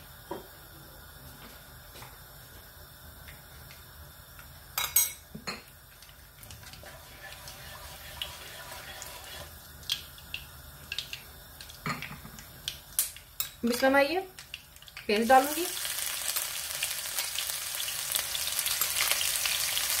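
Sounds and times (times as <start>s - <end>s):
seeds sizzling in oil: 2.0s - 20.0s.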